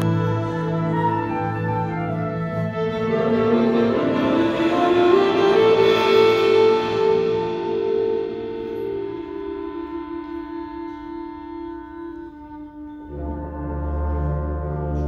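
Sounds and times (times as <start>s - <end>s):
concert band playing: 0.0s - 15.0s.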